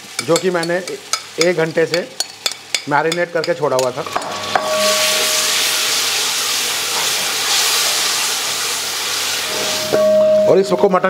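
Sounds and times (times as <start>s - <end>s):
meat sizzling in hot fat: 0.0s - 10.5s.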